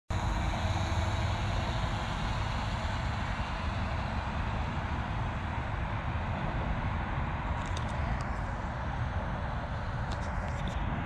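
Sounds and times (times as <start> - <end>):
outdoor rumble: 0.1 - 11.0.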